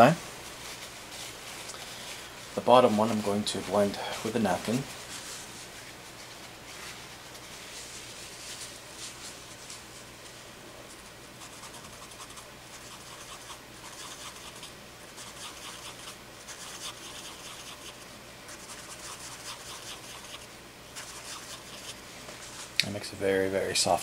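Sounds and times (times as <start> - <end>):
paper napkin rubbing on paper: 0.0 - 22.8.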